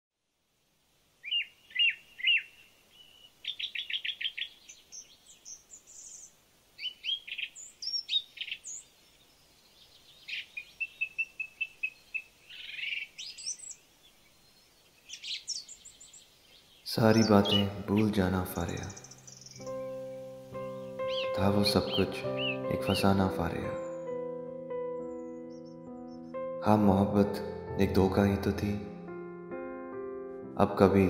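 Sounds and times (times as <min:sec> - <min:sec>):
songbirds chirping and trilling: 0:01.1 - 0:29.3.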